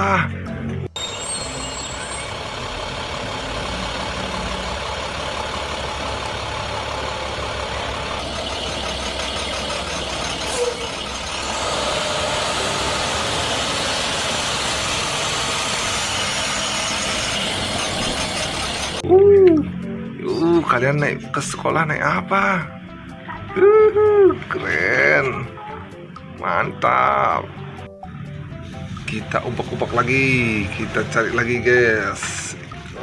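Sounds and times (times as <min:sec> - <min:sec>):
large vehicle engine idling: 0:00.4 - 0:33.0.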